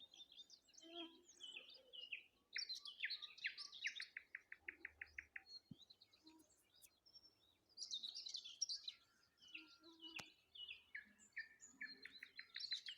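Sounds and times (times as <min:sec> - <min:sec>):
songbirds chirping and warbling: 0:00.0 - 0:12.9.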